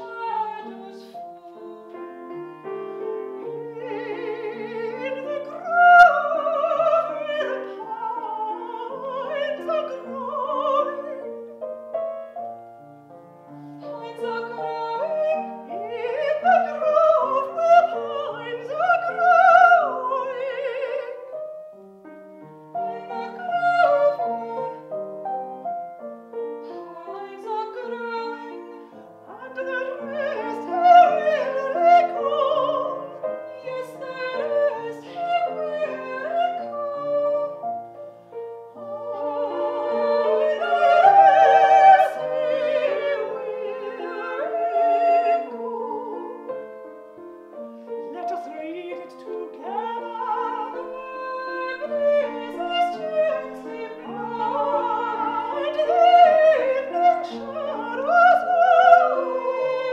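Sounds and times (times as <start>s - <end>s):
women singing with wide vibrato: 0.0s - 11.6s, 13.8s - 21.4s, 22.8s - 25.2s, 26.6s - 47.0s, 47.8s - 59.9s
grand piano accompaniment: 0.0s - 59.9s.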